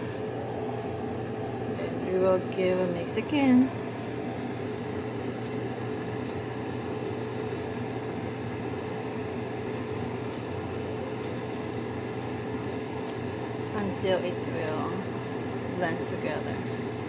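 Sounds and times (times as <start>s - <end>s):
steady appliance hum: 0.0s - 17.0s.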